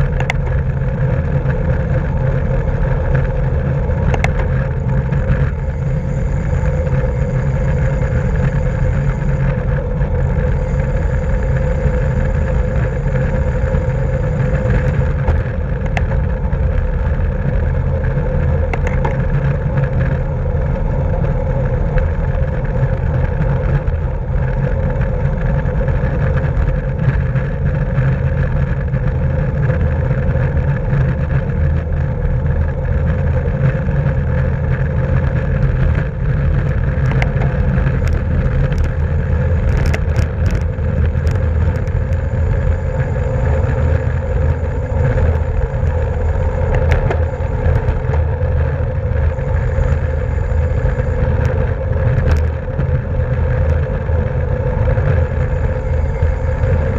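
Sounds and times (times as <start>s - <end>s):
road noise from bike: 0.0s - 56.9s
wind rumble: 0.0s - 56.9s.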